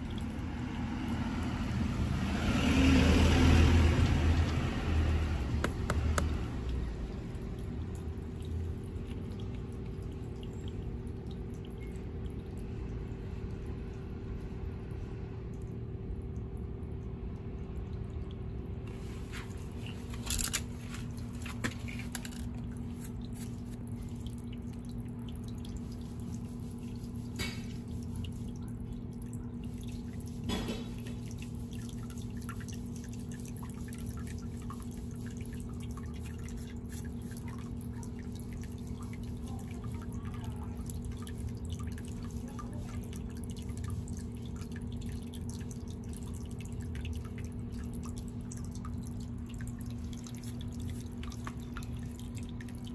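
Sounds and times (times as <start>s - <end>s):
water dripping and trickling: 0.0s - 52.9s.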